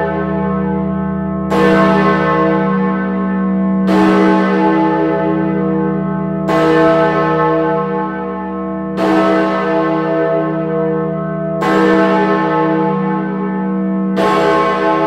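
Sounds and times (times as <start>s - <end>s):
large bell tolling: 0.0s - 15.0s.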